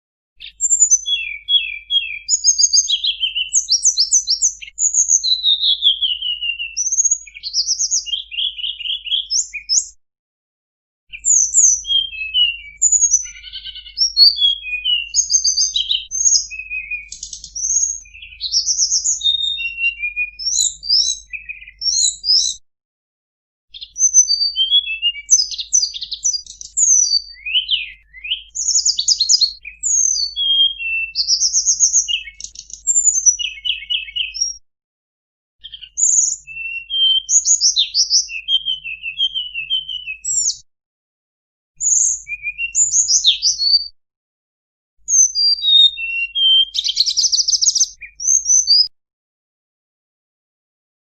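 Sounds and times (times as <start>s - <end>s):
bird singing: 0.4s - 10.0s, 11.1s - 22.6s, 23.7s - 34.6s, 35.6s - 40.6s, 41.8s - 43.9s, 45.1s - 48.9s.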